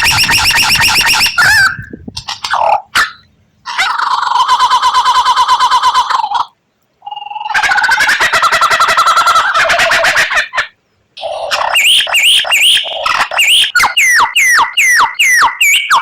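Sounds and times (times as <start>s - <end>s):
bird singing rapid repeated notes: 0.0s - 16.0s.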